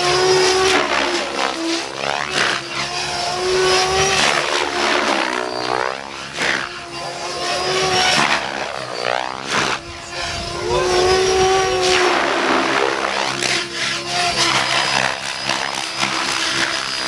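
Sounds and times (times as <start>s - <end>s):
rc helicopter motor and rotor whine: 0.0s - 17.0s.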